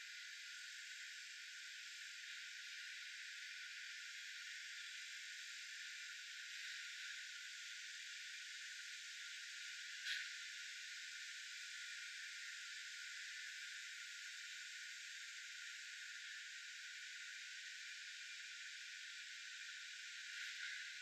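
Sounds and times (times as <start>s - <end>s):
high-pitched outdoor hiss: 0.0s - 21.0s.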